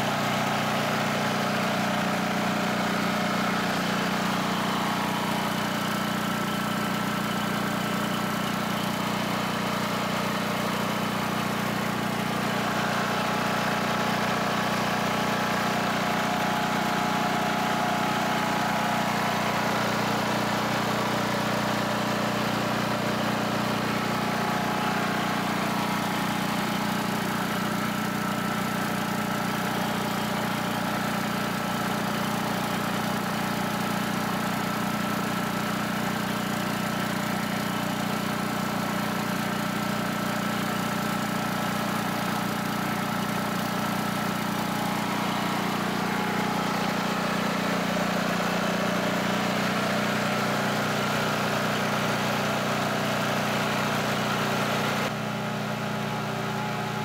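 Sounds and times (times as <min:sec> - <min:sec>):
air compressor running: 0:00.0 - 0:57.0
generator engine running: 0:00.0 - 0:57.0.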